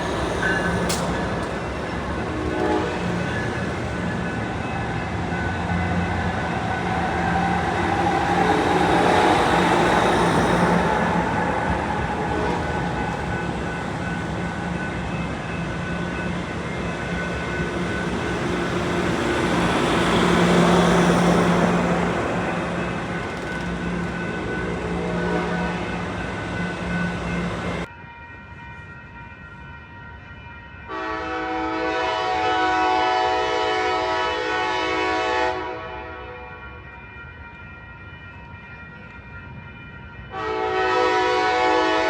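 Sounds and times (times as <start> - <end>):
train running by: 0.0 - 42.0.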